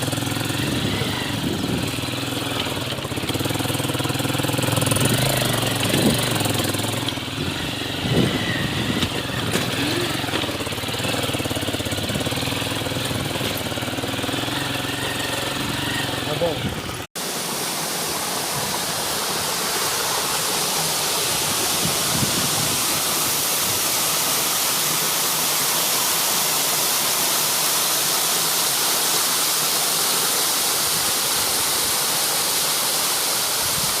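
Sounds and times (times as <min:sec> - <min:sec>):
waterfall rushing and splashing: 0:00.0 - 0:15.2, 0:17.1 - 0:34.0.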